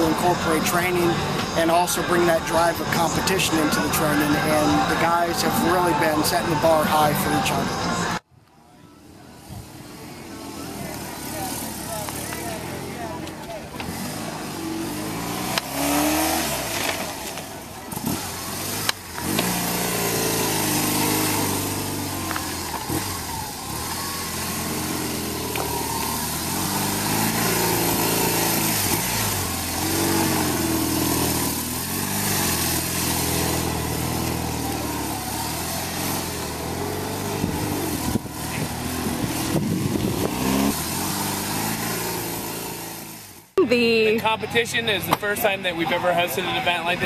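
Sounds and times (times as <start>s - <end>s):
motorcycle engine revving: 0.0s - 8.2s, 9.3s - 47.0s.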